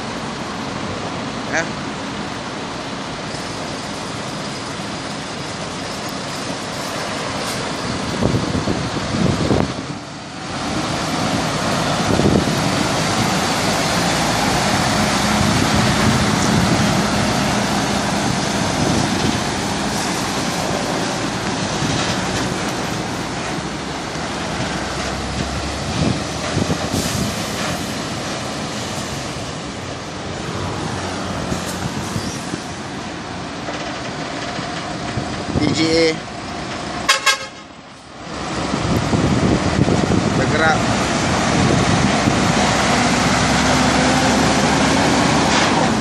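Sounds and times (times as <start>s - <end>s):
diesel truck engine running: 0.0s - 46.0s
trailer wheels rumbling: 0.0s - 46.0s.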